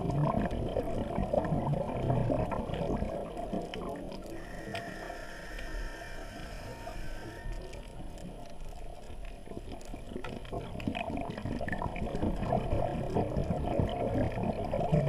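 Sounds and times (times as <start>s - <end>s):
muffled underwater bubbling: 0.0s - 15.0s.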